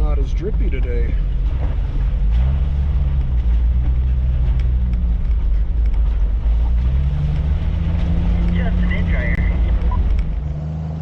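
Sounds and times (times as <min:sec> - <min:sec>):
car engine droning: 0:00.0 - 0:11.0
road rumble: 0:00.0 - 0:11.0.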